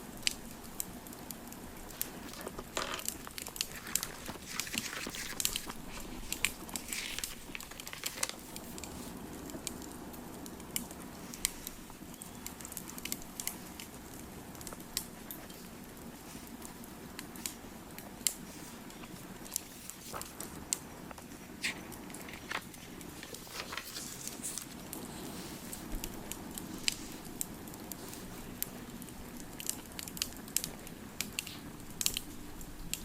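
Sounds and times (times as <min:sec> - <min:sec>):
crackling fire: 0:00.0 - 0:33.0.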